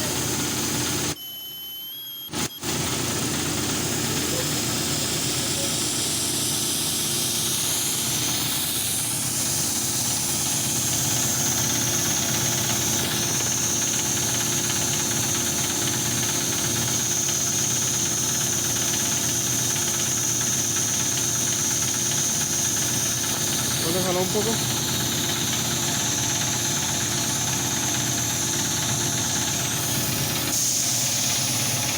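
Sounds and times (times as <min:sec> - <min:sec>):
high steady whine: 0:00.0 - 0:31.9
machinery humming: 0:00.0 - 0:31.9
hiss: 0:04.2 - 0:31.9.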